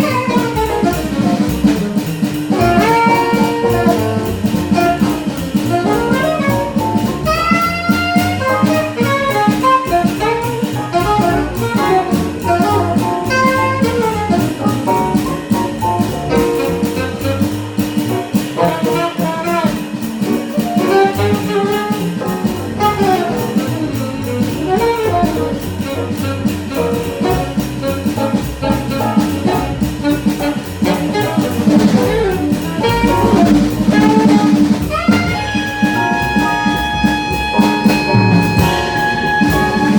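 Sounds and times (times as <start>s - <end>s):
fast horn line: 0.0s - 1.8s, 2.6s - 15.3s, 20.8s - 39.9s
cymbals keeping steady beat: 0.0s - 39.9s
double bass: 0.0s - 39.9s
drum kit: 0.0s - 39.9s
jazz band playing: 0.0s - 39.9s
piano: 0.0s - 39.9s.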